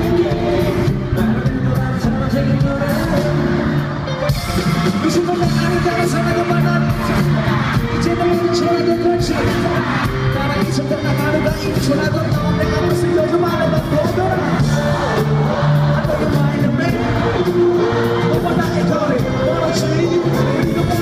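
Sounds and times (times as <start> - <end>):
drums: 0.0 - 21.0
man singing lead vocal: 0.0 - 21.0.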